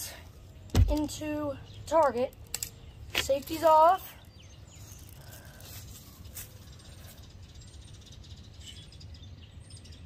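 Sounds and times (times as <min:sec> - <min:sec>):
bird chirps: 0:00.4 - 0:10.0.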